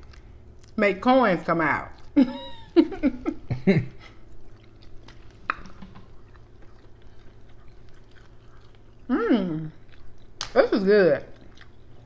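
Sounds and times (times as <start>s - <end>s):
chewing with wet mouth clicks: 0.0s - 0.8s, 1.4s - 12.0s.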